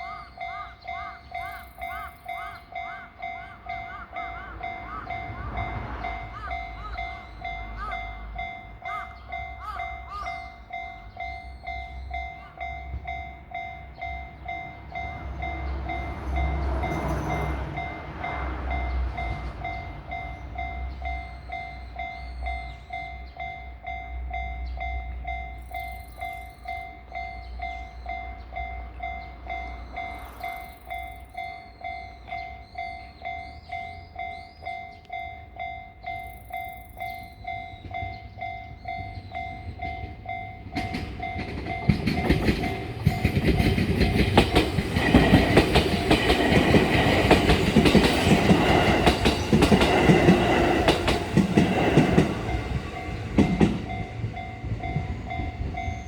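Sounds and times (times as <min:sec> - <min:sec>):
level-crossing bell ringing: 0:00.0 - 0:56.0
train rumbling past: 0:00.0 - 0:56.0.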